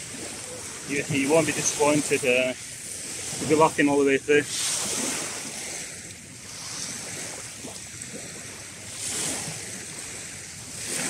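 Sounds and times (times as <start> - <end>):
waves washing over pebbles: 0.0 - 11.0.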